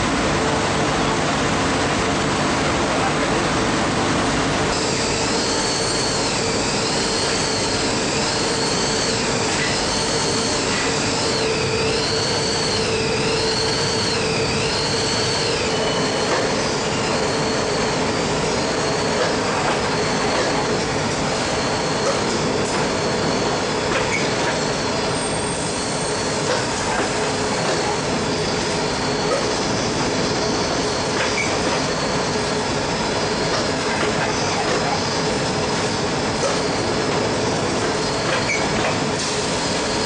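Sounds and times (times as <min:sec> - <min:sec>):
industrial laundry machines humming: 0:00.0 - 0:40.0.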